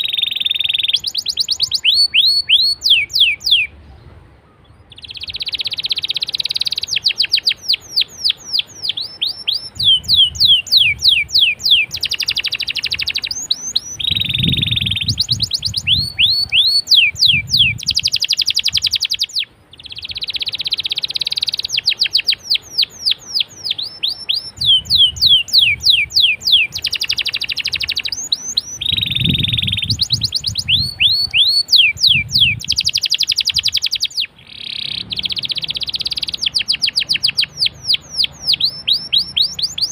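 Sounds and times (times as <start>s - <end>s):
canary singing trills: 0.0s - 3.8s, 4.5s - 39.9s.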